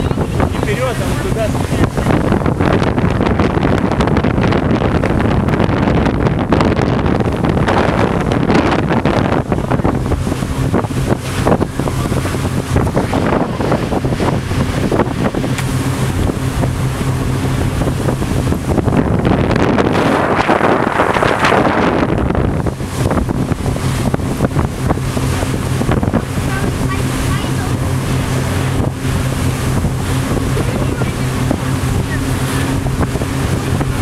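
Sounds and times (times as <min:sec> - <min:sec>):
boat engine humming: 0:00.0 - 0:34.0
wind buffeting microphone: 0:00.0 - 0:34.0.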